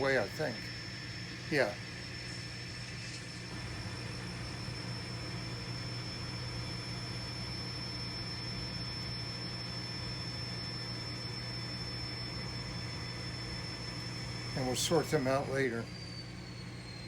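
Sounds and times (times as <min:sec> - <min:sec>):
model train hum and whine: 0:00.0 - 0:17.0.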